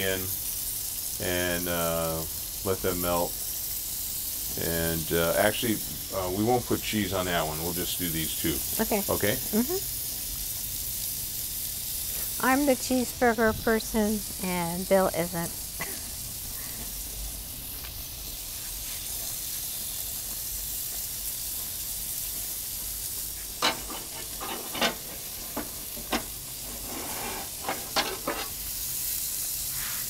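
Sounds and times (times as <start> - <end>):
patties sizzling: 0.0 - 30.0.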